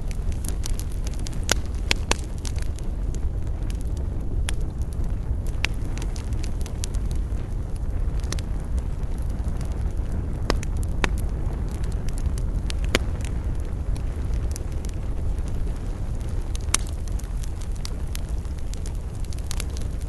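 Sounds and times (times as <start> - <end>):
campfire crackling: 0.0 - 20.0
low rumble of fire: 0.0 - 20.0
sharp pops of fire: 0.0 - 20.0.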